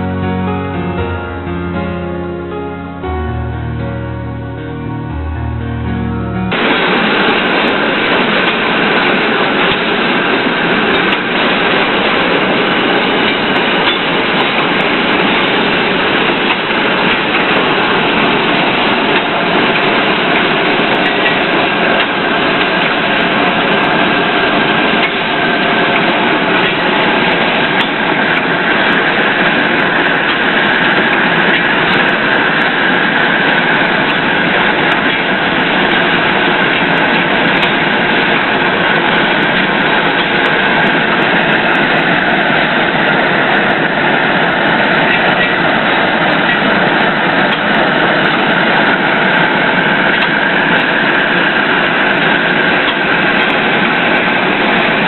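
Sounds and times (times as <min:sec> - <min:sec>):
metal-working machinery running: 0:06.5 - 0:55.0.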